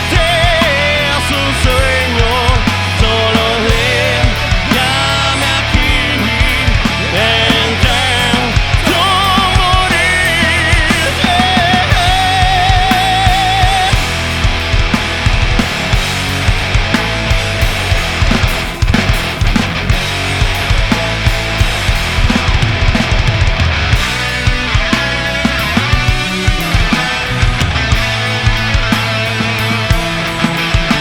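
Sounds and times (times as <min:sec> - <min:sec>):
rock band playing live: 0:00.0 - 0:31.0
steady drum hits: 0:00.0 - 0:31.0.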